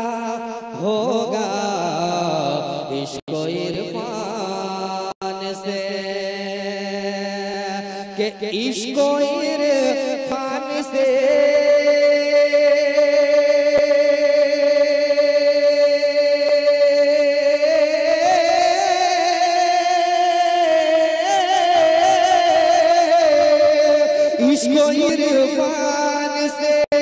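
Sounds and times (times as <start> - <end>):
man singing devotional song: 0.0 - 27.0.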